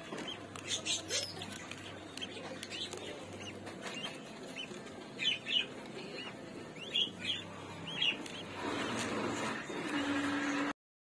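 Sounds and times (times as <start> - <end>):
parrot chicks cheeping: 0.0 - 10.7.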